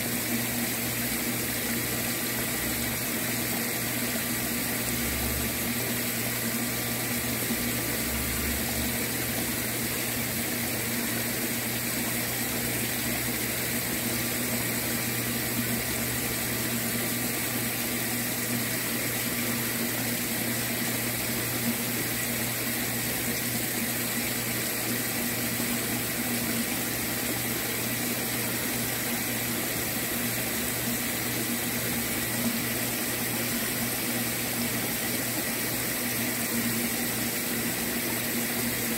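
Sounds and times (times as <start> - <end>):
pump humming: 0.0 - 38.9
water churning in a tank: 0.0 - 38.9.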